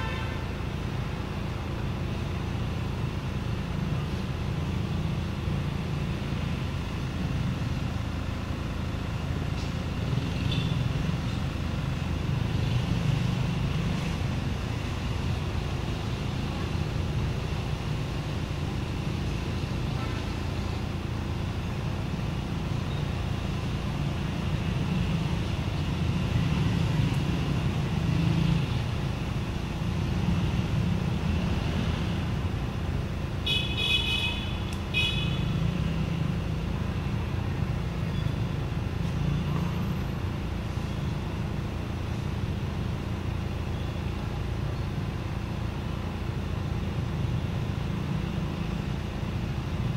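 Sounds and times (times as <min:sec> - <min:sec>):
low rumble of traffic: 0:00.0 - 0:49.9.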